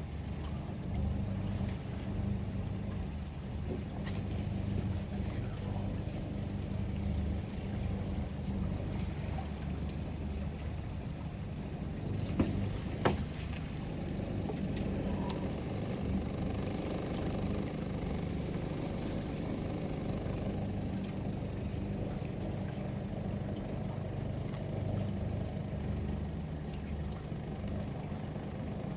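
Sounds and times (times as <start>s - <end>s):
low engine drone: 0.0s - 28.9s.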